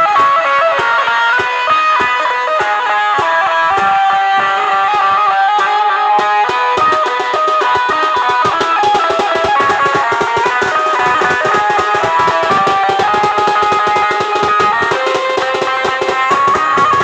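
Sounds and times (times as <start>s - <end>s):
amplified banjo melody: 0.0s - 17.0s
dhol drum beats: 0.0s - 17.0s.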